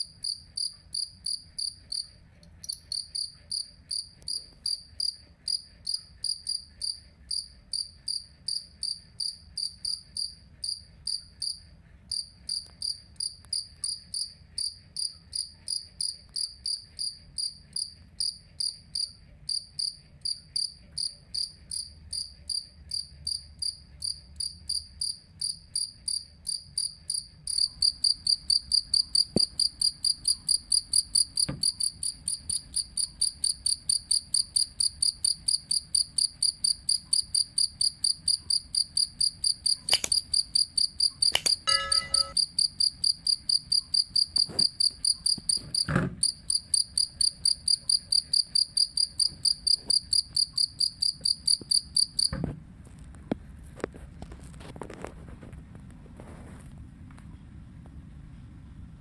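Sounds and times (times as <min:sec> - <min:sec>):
cricket chirping: 0:00.1 - 0:45.4, 0:46.2 - 0:52.3.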